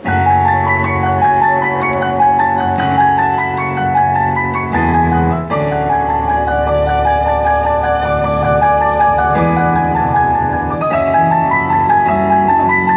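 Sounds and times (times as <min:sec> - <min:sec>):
synthesizer bass notes: 0:00.0 - 0:12.9
synthesizer melody: 0:00.0 - 0:12.9.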